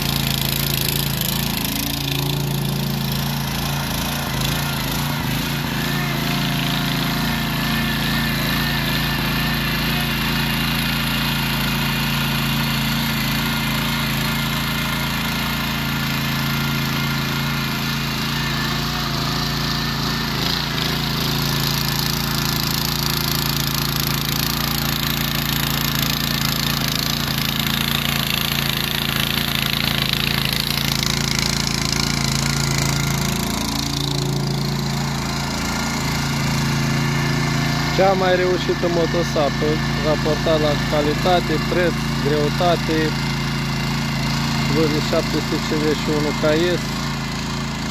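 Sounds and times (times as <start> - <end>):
tiller engine running under load: 0.0 - 47.9
tines churning soil: 0.0 - 47.9.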